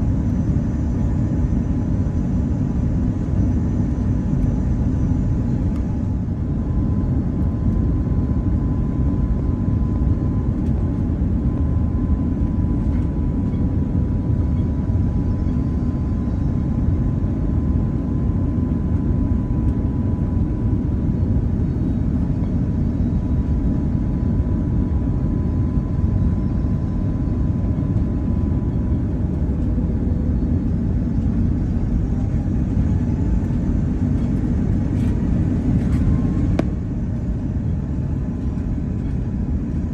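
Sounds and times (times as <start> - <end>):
faint high whine: 0.0 - 39.9
low rumble of engines and airflow: 0.0 - 39.9.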